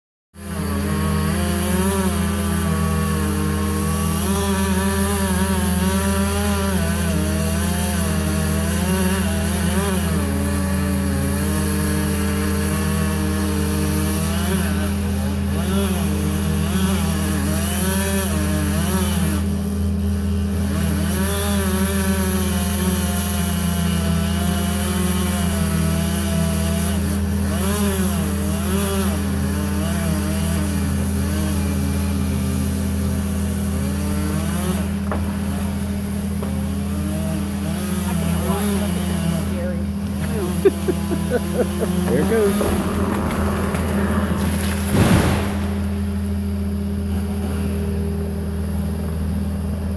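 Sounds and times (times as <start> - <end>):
chainsaw cutting wood: 0.4 - 49.9.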